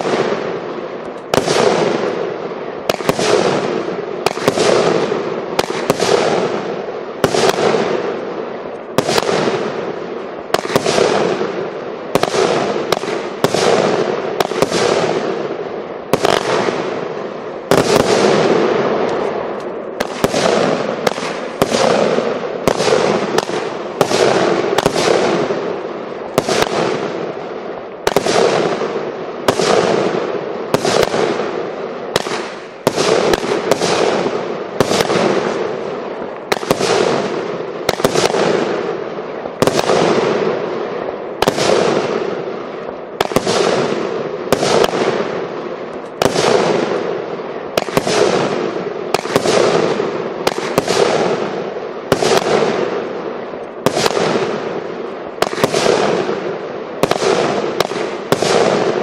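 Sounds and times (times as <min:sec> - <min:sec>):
firework cake firing bangs: 0:00.0 - 0:08.3, 0:08.9 - 0:53.2, 0:53.8 - 0:59.0.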